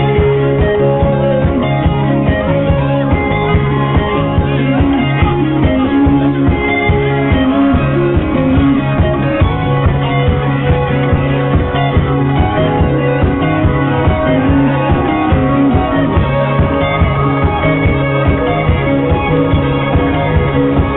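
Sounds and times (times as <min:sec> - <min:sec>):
guitars: 0:00.0 - 0:20.9
rock band playing: 0:00.0 - 0:20.9
steady drum beat: 0:00.0 - 0:20.9.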